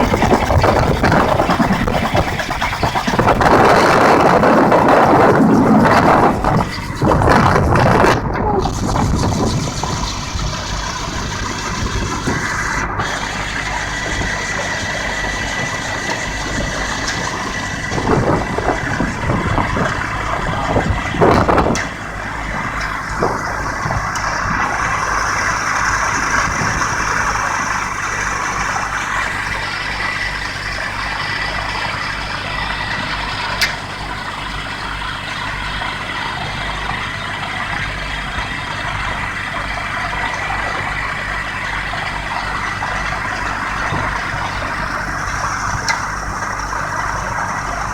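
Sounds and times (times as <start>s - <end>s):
gyrocopter engine and rotor: 0.0s - 47.9s.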